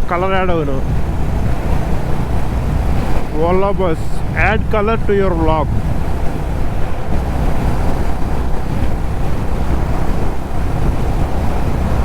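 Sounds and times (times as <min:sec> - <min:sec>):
low motorcycle rumble: 0:00.0 - 0:12.0
wind rush on microphone: 0:00.0 - 0:12.0.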